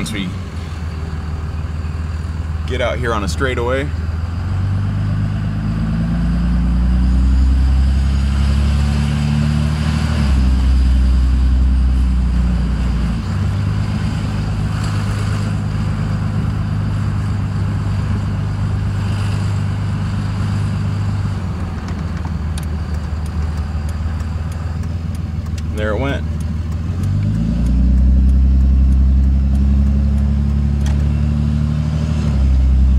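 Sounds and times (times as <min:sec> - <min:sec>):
diesel truck engine accelerating: 0:00.0 - 0:32.9.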